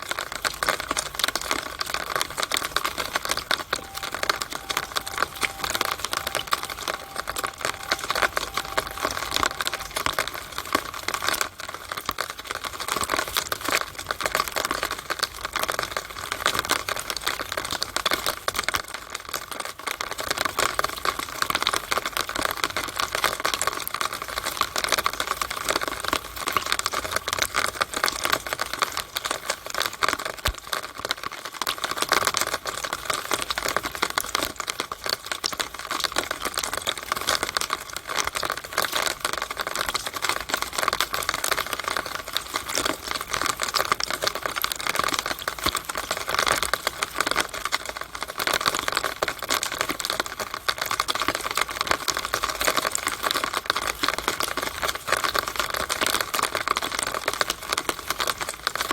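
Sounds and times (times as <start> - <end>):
rainwater running down downspout: 0.0 - 3.9, 11.5 - 58.9.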